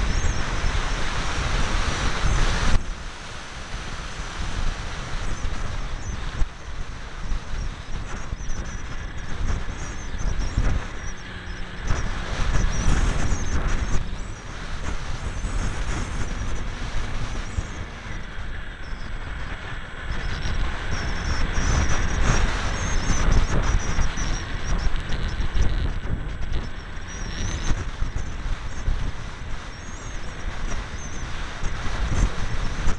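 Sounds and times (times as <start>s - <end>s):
electric motor propeller whine: 0.0s - 32.9s
wind buffeting microphone: 0.0s - 32.9s.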